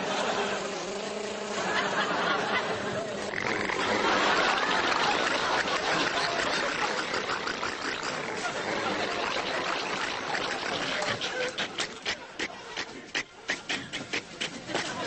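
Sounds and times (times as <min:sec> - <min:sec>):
audience laughing: 0:00.0 - 0:15.0.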